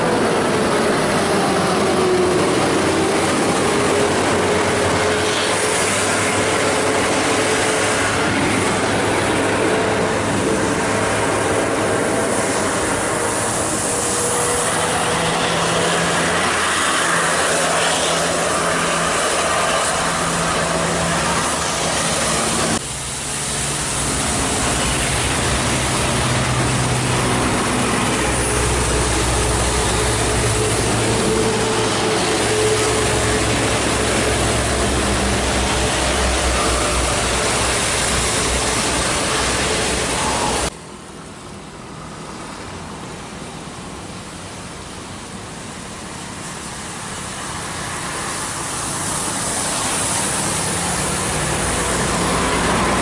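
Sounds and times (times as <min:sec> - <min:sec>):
heavy bus engine: 0:00.0 - 0:53.0
rain and tyre spray hiss: 0:00.0 - 0:53.0.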